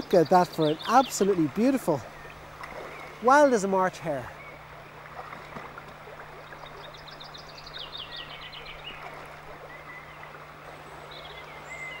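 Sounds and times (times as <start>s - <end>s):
river water running: 0.0s - 12.0s
songbird singing: 0.0s - 12.0s.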